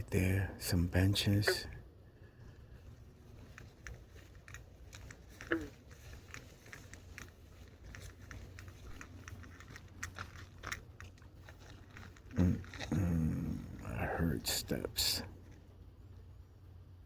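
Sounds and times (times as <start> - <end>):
low steady hum: 0.0 - 17.0
faint crunching clicks: 2.4 - 16.3.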